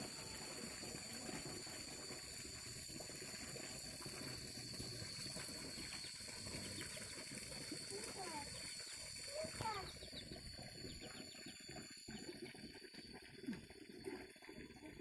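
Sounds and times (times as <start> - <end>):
muddy water sloshing and trickling: 0.0 - 15.0.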